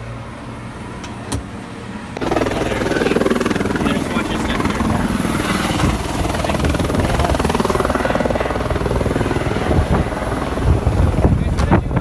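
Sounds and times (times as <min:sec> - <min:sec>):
helicopter rotor chopping: 0:01.3 - 0:12.0.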